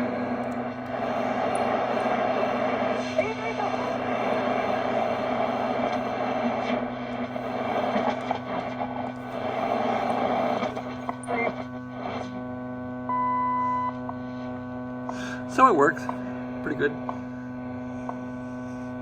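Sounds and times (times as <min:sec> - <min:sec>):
radio static: 0:00.0 - 0:19.0
steady hum from speaker: 0:00.0 - 0:19.0.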